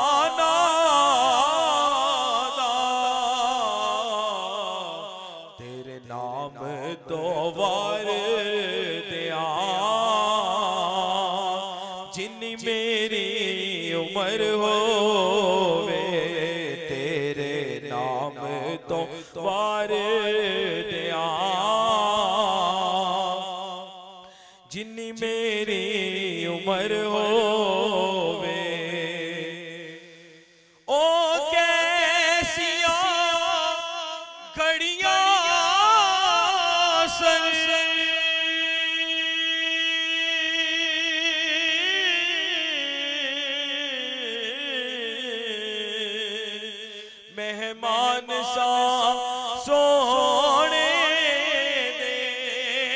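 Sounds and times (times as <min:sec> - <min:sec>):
man singing unaccompanied: 0:00.0 - 0:52.9.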